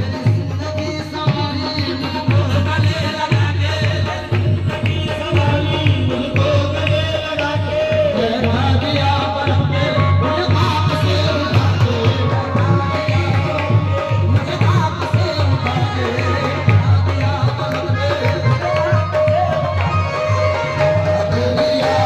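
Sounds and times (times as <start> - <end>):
song with drum beat: 0.0 - 22.0.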